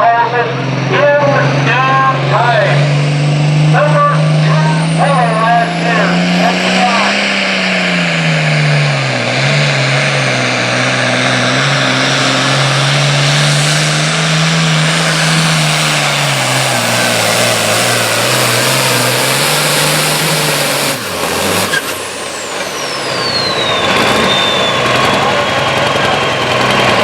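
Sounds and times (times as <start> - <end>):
tractor diesel engine running hard: 0.0 - 27.0
turbocharger whistling: 0.0 - 27.0.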